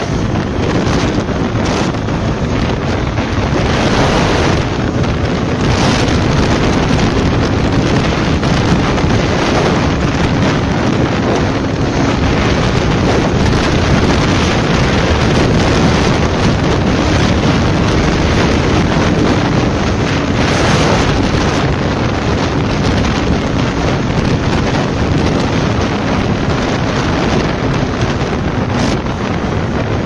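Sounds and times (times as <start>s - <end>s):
motorcycle engine hum: 0.0s - 30.0s
wind rushing over microphone: 0.0s - 30.0s.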